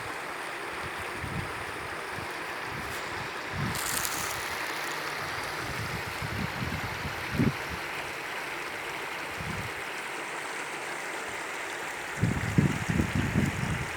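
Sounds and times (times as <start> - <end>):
stream babbling over stones: 0.0 - 13.9.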